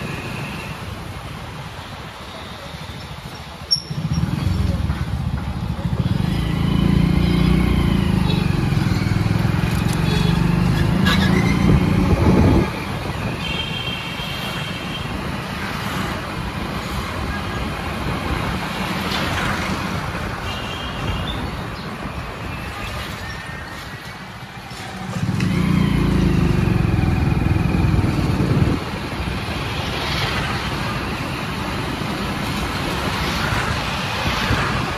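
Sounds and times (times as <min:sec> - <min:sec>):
street traffic hum: 0:00.0 - 0:34.9.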